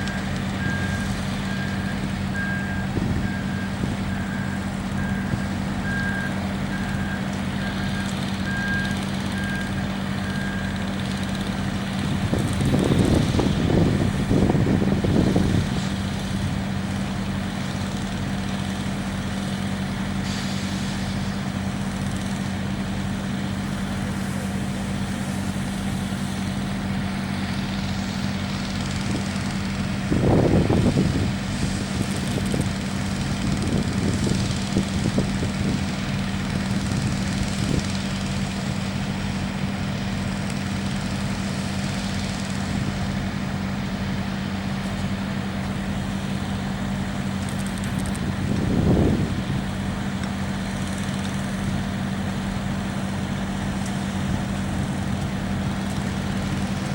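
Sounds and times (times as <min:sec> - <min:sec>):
construction machinery engines humming: 0:00.0 - 0:56.9.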